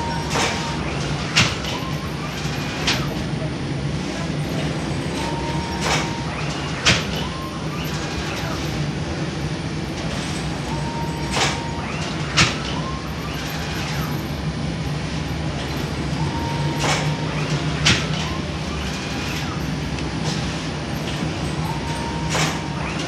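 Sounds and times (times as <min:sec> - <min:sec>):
machine squeaks: 0:00.0 - 0:03.4, 0:04.0 - 0:09.2, 0:10.0 - 0:23.0
oven machinery humming: 0:00.0 - 0:23.0.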